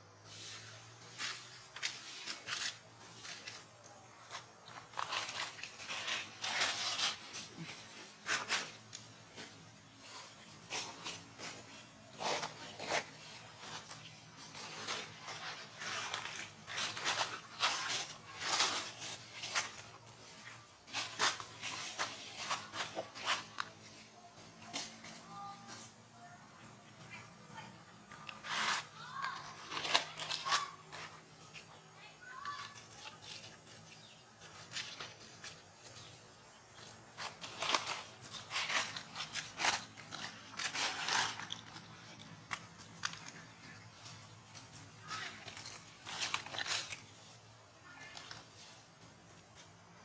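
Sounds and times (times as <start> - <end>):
rustling and scratching noises: 0.2 - 50.0.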